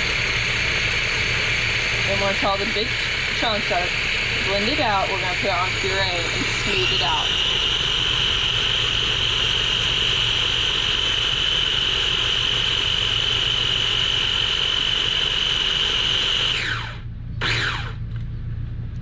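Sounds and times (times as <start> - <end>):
blender motor whining: 0.0 - 18.0.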